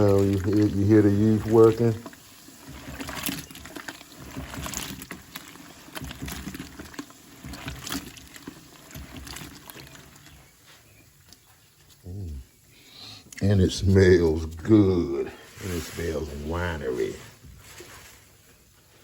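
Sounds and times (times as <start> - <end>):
liquid sloshing in a container: 0.0 - 12.0, 15.4 - 18.8.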